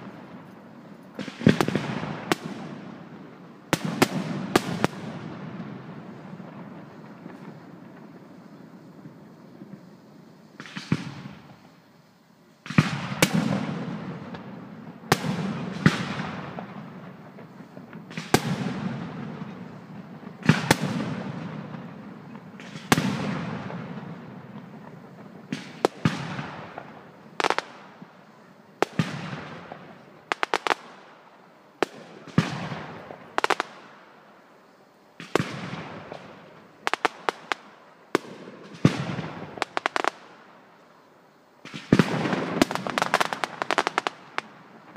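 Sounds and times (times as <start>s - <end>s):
crackling firework pops: 0.0s - 11.8s, 12.6s - 34.1s, 35.1s - 40.6s, 41.6s - 44.9s.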